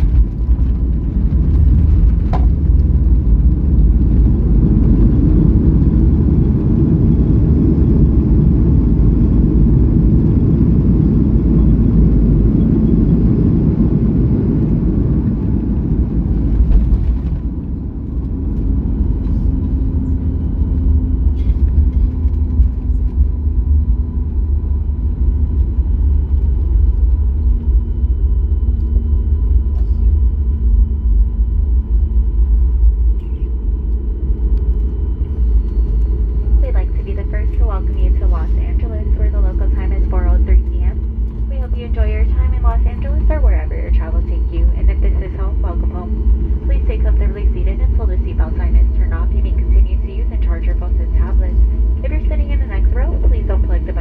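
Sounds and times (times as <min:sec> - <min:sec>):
jet engines roaring: 0:00.0 - 0:25.6, 0:34.2 - 0:54.0
deep rumble: 0:00.0 - 0:54.0
faint hum: 0:00.0 - 0:54.0.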